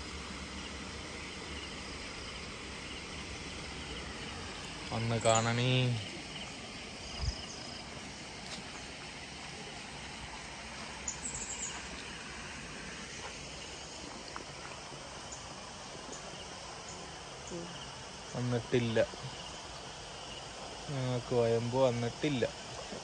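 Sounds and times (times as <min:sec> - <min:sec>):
insects chirping: 0:00.0 - 0:23.0
water rushing in canal: 0:00.0 - 0:23.0.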